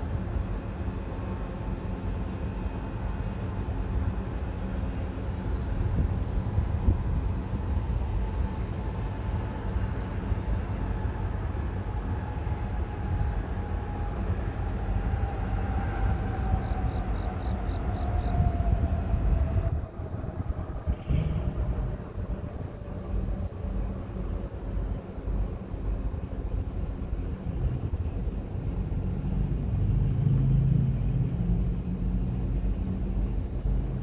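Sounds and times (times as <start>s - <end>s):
vehicle engine rumble: 5.4s - 34.0s.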